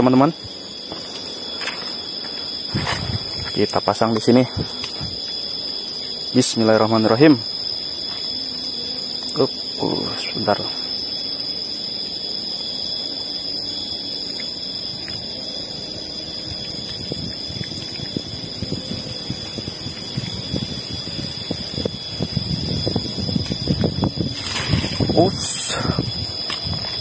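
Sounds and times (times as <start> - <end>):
high-pitched whine: 0.0 - 27.0.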